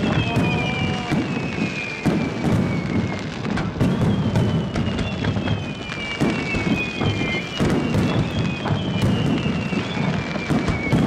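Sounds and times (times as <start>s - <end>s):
dense firework crackle: 0.0s - 11.0s
firework shells bursting: 0.0s - 11.0s.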